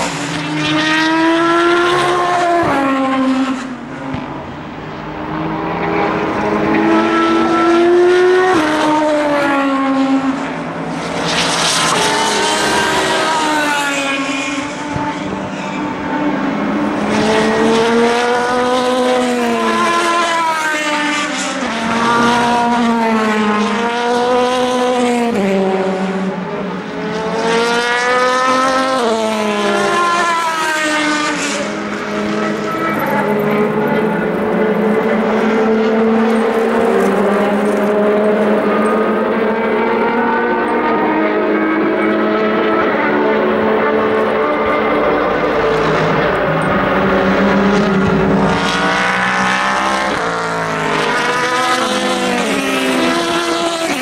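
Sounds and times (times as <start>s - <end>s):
race cars passing at speed: 0.0s - 54.0s.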